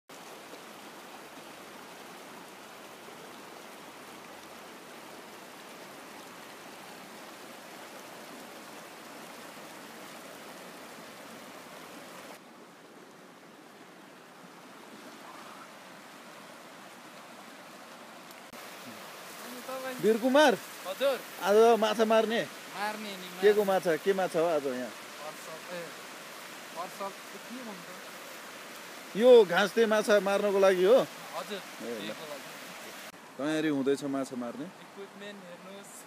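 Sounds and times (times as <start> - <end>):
river rushing over stones: 0.1 - 36.0.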